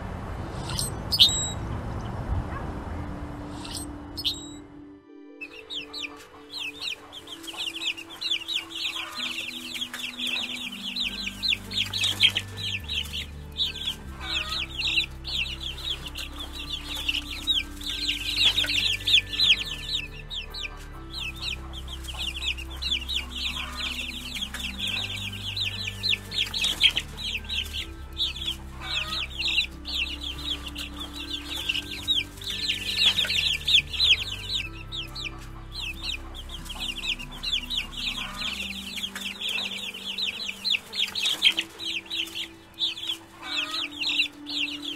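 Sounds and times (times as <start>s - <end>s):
background music: 0.0s - 44.9s
chicks peeping: 0.5s - 2.7s, 3.4s - 4.8s, 5.4s - 44.9s.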